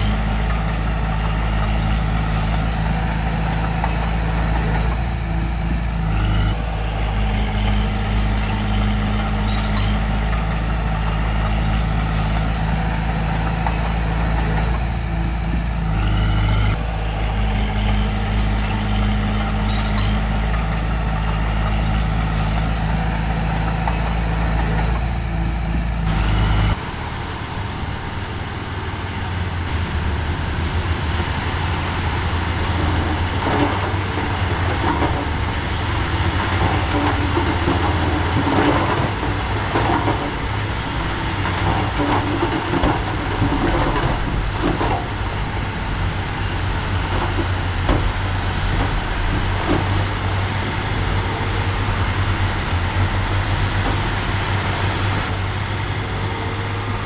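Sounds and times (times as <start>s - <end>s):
bulldozer diesel engine running: 0.0s - 57.0s
low engine drone: 0.0s - 57.0s.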